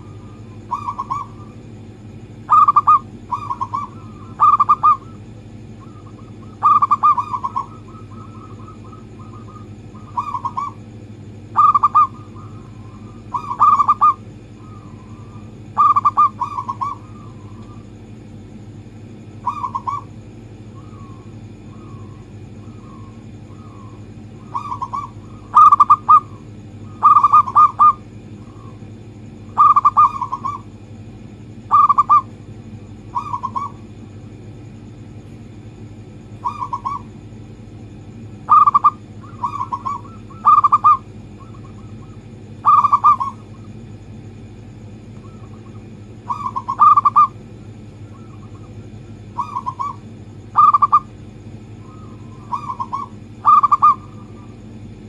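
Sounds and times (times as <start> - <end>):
dove cooing: 0.0 - 18.1, 19.0 - 30.8, 31.6 - 34.2, 36.3 - 37.4, 38.1 - 44.2, 44.8 - 55.0
steady low hum: 0.0 - 55.0.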